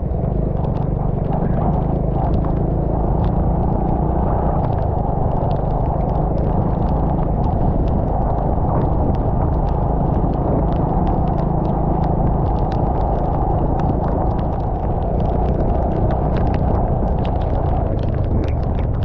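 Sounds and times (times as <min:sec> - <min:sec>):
rain ticking on camera: 0:00.0 - 0:19.0
vehicle travelling rumble: 0:00.0 - 0:19.0.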